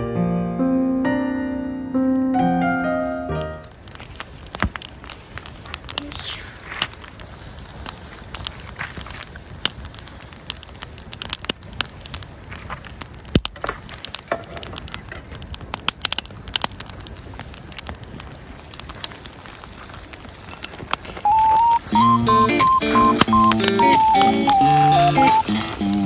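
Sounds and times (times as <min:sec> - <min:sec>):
campfire crackling: 0:03.3 - 0:26.0
sharp fire pops: 0:03.4 - 0:26.0.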